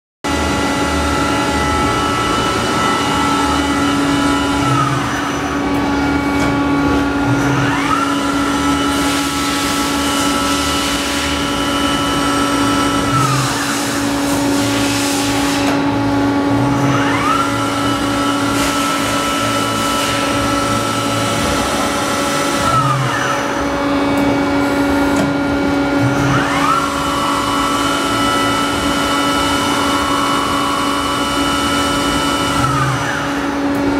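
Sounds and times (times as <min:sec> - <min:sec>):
machine hum: 0:00.2 - 0:33.9
lathe spindle whine: 0:00.3 - 0:33.9.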